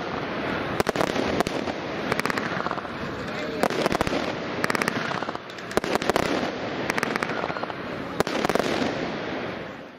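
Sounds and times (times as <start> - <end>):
firework crackling pops: 0.0 - 9.8
firework hissing: 0.0 - 9.9.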